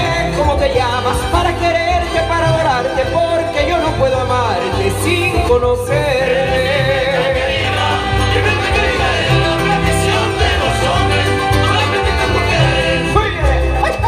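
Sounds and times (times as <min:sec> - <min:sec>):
mariachi music: 0:00.0 - 0:14.0.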